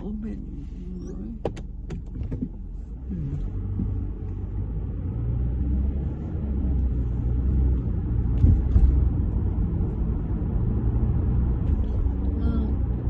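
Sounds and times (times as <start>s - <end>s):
road noise inside moving car: 0.0s - 13.0s.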